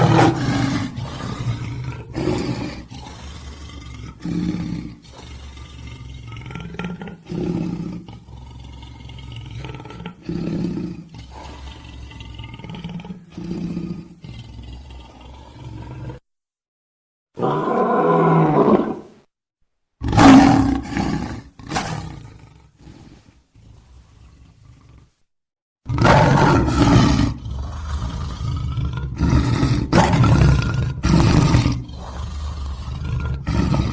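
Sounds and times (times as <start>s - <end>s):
lion roaring: 0.0s - 16.2s, 17.4s - 19.1s, 20.0s - 25.2s, 25.9s - 33.9s.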